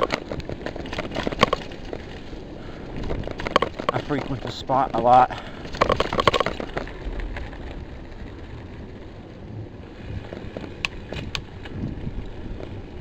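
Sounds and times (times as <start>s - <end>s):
bike clicks and rattles: 0.0s - 13.0s
bike tyres rumbling on dirt: 0.0s - 13.0s
wind on microphone: 0.0s - 13.0s.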